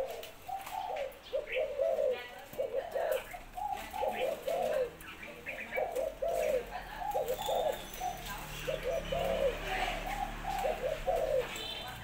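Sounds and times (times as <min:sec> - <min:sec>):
doves cooing: 0:00.0 - 0:12.0.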